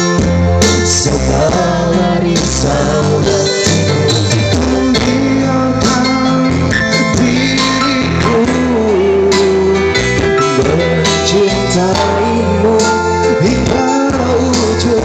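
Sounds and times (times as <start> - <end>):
electronic keyboard pop music: 0.0 - 15.0.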